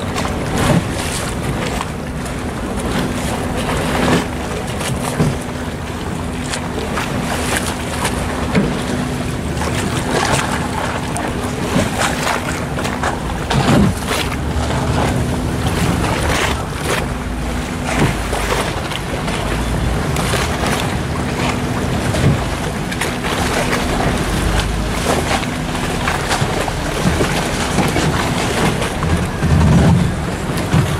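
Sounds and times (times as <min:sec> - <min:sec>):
steady low hum: 0:00.0 - 0:30.9
water rushing and lapping: 0:00.0 - 0:30.9.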